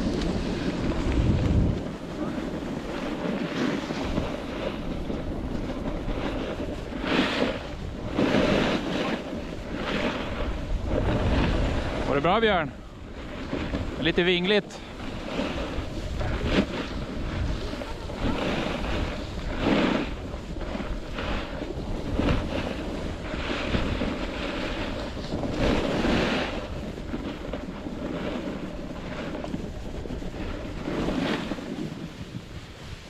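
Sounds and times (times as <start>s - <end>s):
skis swishing through snow: 0.0s - 33.0s
wind rushing over microphone: 0.0s - 33.0s.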